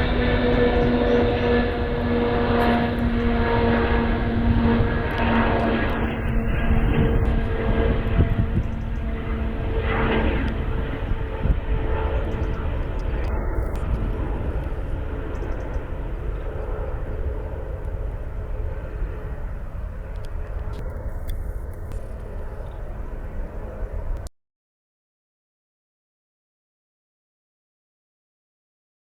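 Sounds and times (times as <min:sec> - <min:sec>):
cargo aircraft engines rumbling: 0:00.0 - 0:24.3.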